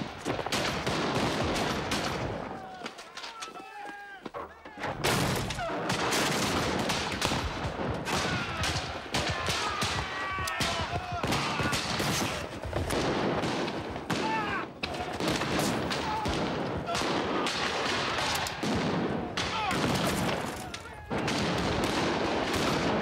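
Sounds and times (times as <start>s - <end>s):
muskets and pistols firing: 0.0s - 2.6s, 4.9s - 23.0s.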